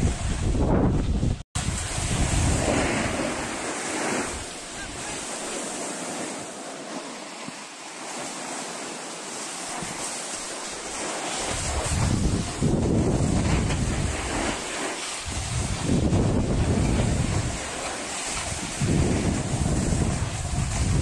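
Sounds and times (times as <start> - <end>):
wind buffeting microphone: 0.0 - 21.0
skis hissing over snow: 1.6 - 21.0.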